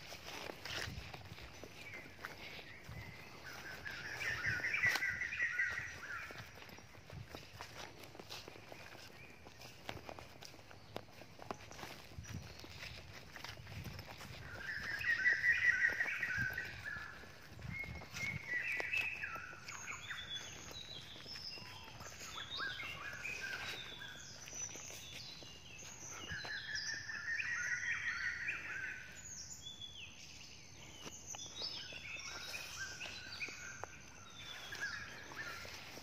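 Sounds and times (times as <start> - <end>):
birds chirping and singing: 0.0 - 36.0.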